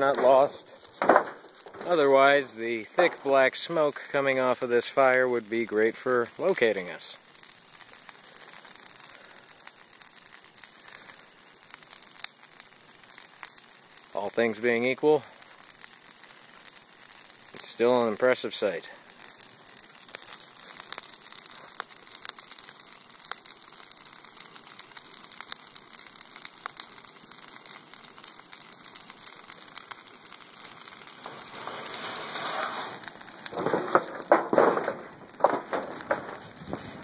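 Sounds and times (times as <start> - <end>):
fire rushing: 0.0 - 37.0
tire fire crackling: 0.0 - 37.0.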